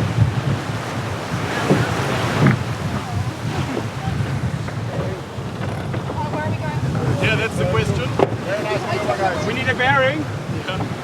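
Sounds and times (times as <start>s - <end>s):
water rushing past hull: 0.0s - 11.0s
wind buffeting microphone: 0.0s - 11.0s.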